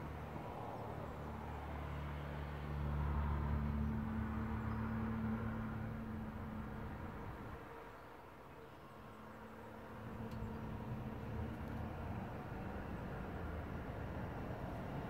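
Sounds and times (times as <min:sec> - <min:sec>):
motor vehicle engine hum: 0:00.0 - 0:15.0.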